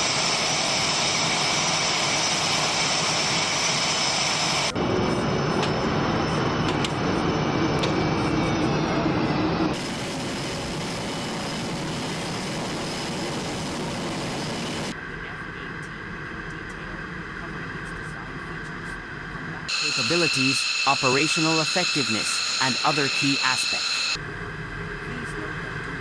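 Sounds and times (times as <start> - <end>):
jet engine roar with whine: 0.0 - 26.0.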